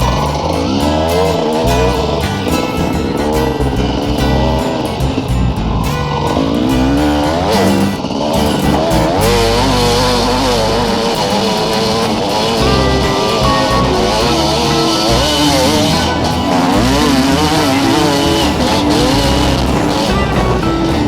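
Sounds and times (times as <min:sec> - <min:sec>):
music playing: 0:00.0 - 0:21.0
small motorcycle engine revving: 0:00.0 - 0:21.0.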